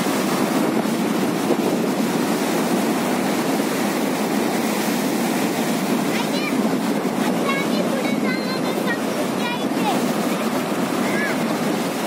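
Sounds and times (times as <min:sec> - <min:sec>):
sea surf breaking on rocks: 0:00.0 - 0:12.0.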